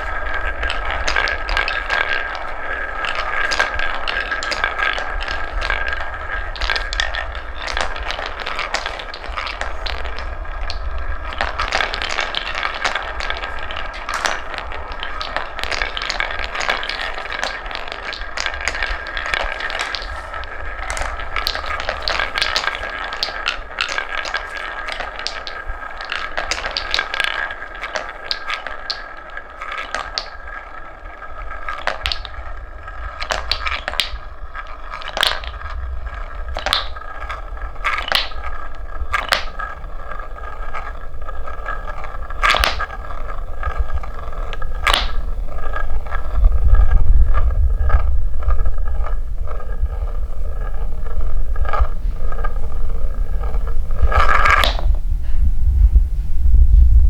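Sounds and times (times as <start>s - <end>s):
wooden clacks: 0.0s - 55.5s
wooden balls rolling on track: 0.0s - 57.0s.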